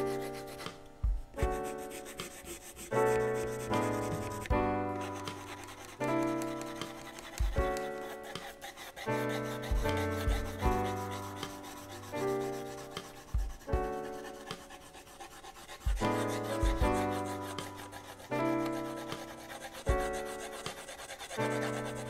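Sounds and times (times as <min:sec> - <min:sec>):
pencil shading on paper: 0:00.0 - 0:22.0
slow background music: 0:00.0 - 0:22.0.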